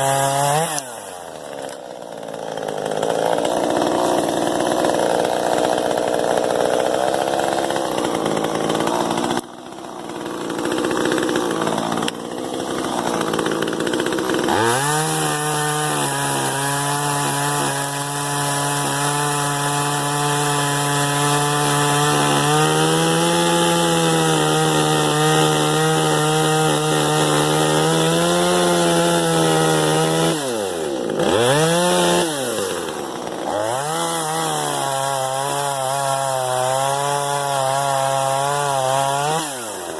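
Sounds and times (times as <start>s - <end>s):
chainsaw cutting brush: 0.0s - 39.9s.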